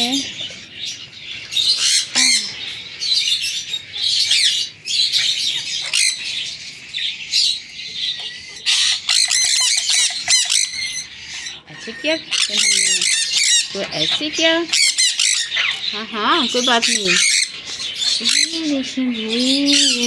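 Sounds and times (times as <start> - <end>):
parrots squawking: 0.0 - 20.0.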